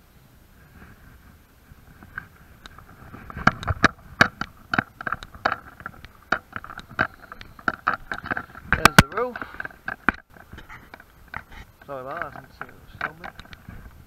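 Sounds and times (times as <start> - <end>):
footsteps on gritty roof: 1.8 - 14.0.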